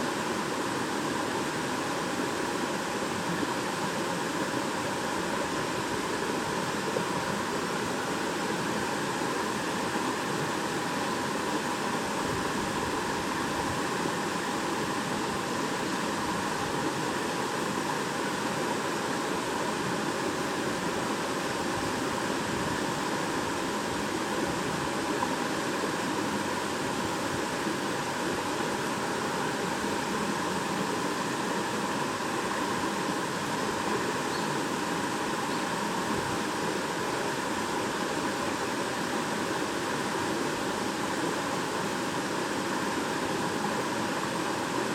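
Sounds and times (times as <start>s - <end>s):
stream babbling over rocks: 0.0s - 44.9s.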